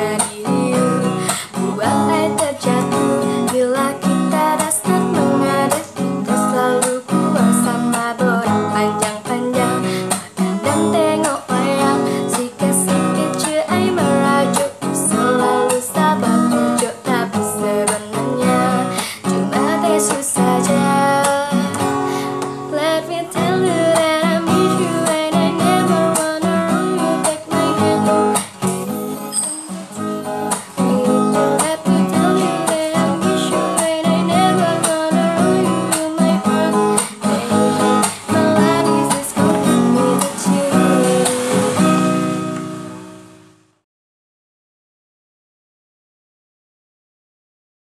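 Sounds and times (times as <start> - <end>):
woman singing: 0.0 - 42.4
strummed acoustic guitar: 0.0 - 43.8.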